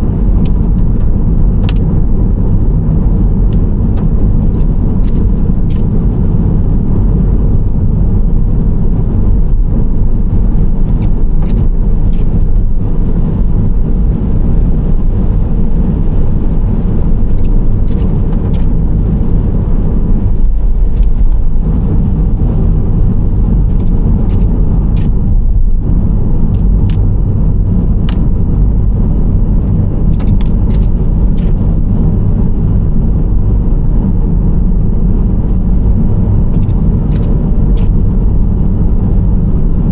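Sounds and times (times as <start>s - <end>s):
engine hum: 0.0s - 39.9s
road and tyre rumble: 0.0s - 39.9s.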